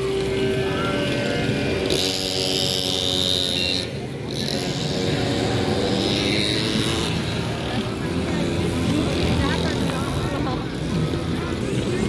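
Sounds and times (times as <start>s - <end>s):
people's voices: 0.0s - 12.0s.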